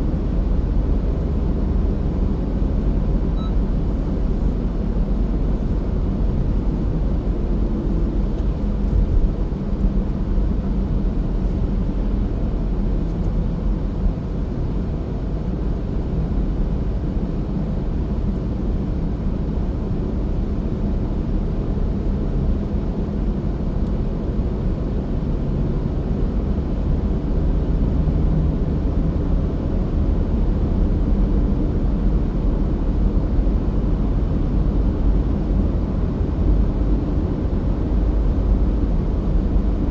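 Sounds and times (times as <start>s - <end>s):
car engine drone: 0.0s - 25.2s, 26.9s - 39.9s.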